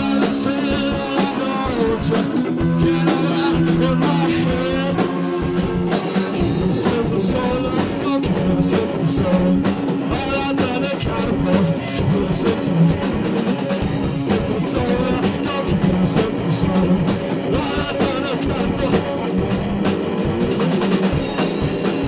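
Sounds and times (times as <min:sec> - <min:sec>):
blues-rock band playing: 0:00.0 - 0:22.0
drum and cymbal strokes: 0:00.0 - 0:22.0
electric guitar: 0:00.0 - 0:22.0.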